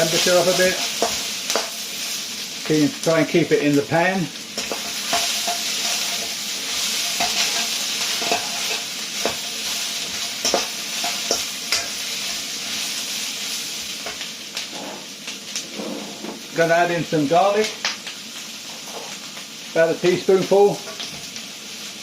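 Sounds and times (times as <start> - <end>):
food sizzling in a wok: 0.0 - 22.0.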